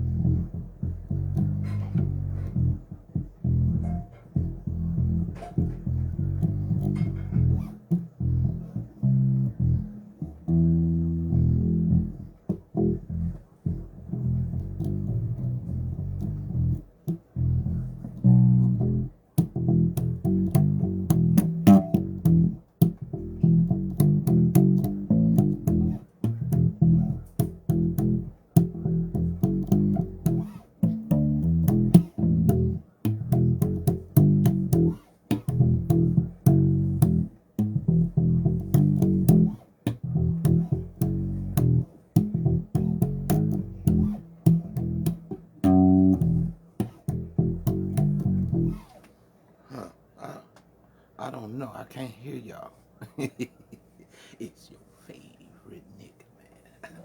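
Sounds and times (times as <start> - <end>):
bass guitar plucked notes: 0.0 - 49.0.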